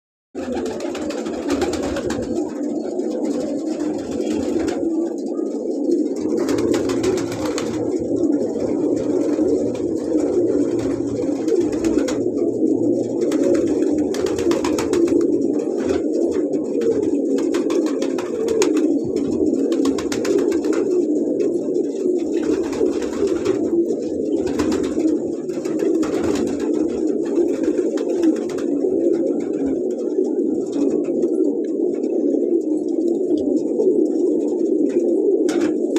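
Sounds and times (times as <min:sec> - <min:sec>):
pigeons cooing: 0:00.4 - 0:35.9.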